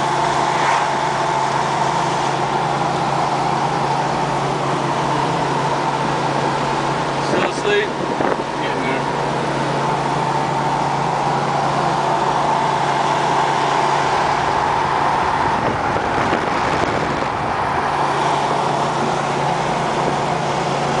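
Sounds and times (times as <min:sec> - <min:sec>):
car engine droning: 0:00.0 - 0:21.0
road noise: 0:00.0 - 0:21.0.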